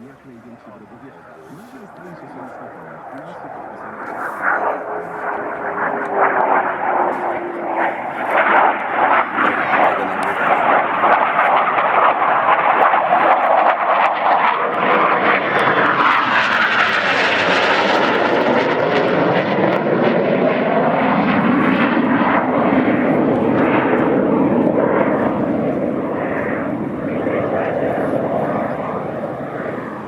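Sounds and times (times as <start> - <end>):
aircraft engine flying past: 0.0 - 30.0.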